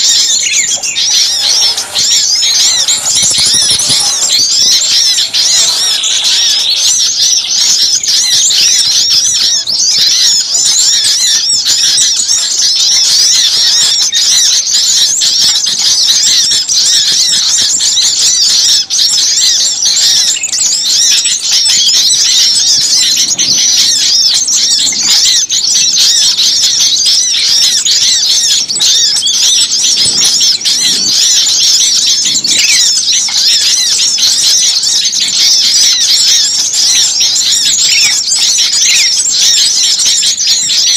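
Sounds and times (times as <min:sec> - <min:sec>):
songbirds chirping and twittering: 0:00.0 - 0:40.9.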